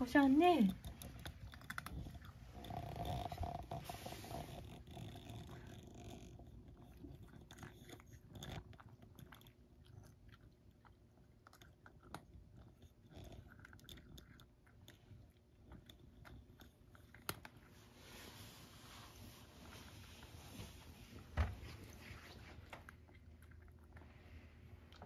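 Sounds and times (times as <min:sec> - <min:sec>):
cat crunching dry food: 0:00.1 - 0:17.8, 0:22.6 - 0:25.0.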